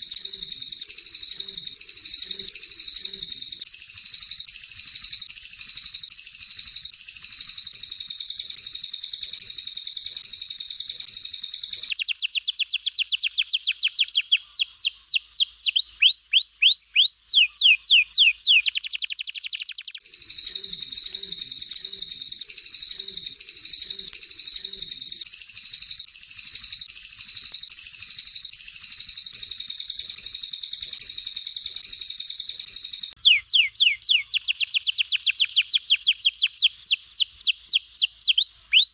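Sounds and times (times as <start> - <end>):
songbird buzzing chatter: 0.0 - 38.9.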